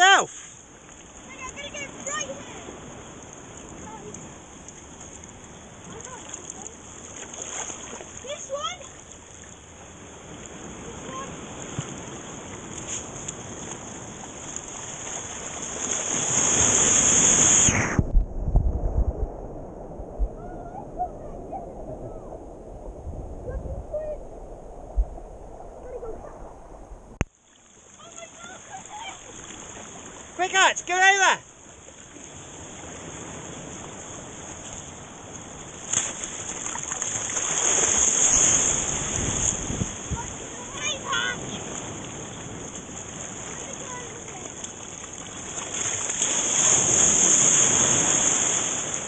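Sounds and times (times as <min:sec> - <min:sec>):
seawater sloshing: 0:00.0 - 0:18.1, 0:19.8 - 0:49.0
white water rushing: 0:00.0 - 0:27.2, 0:27.8 - 0:49.0
sea wave breaking: 0:00.0 - 0:49.0.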